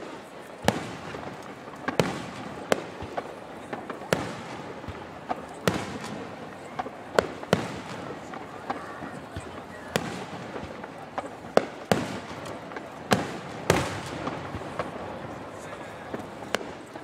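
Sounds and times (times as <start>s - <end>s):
small firework cracks: 0.0s - 17.0s.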